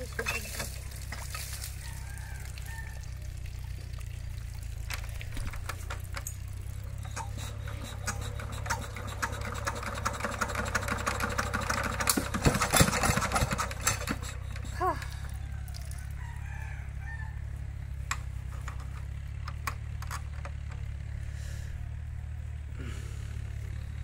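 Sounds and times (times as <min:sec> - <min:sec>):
diesel engine driving water pump: 0:00.0 - 0:24.0.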